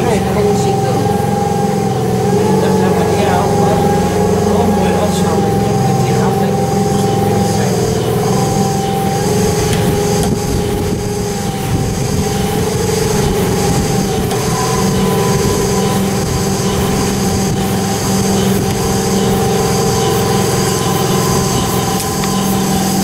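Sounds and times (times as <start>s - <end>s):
ferry motor droning: 0.0s - 23.0s.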